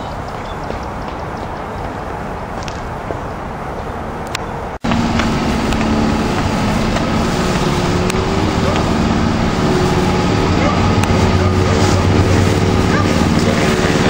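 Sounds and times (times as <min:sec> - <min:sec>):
motor vehicle engine rumbling: 0:00.0 - 0:14.0.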